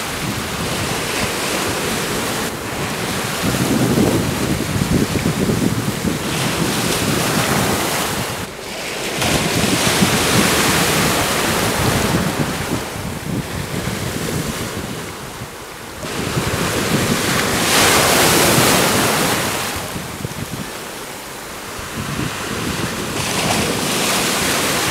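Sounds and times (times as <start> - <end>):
small waves breaking on shore: 0.0 - 24.9
wind buffeting microphone: 0.0 - 24.9.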